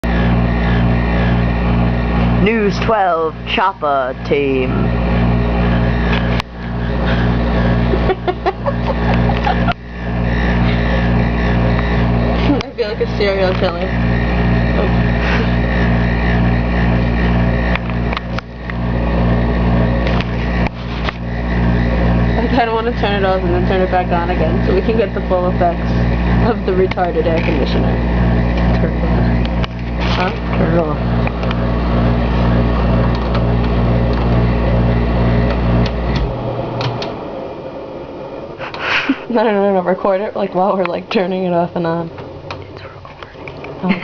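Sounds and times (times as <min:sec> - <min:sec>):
air conditioner humming: 0:00.0 - 0:44.0.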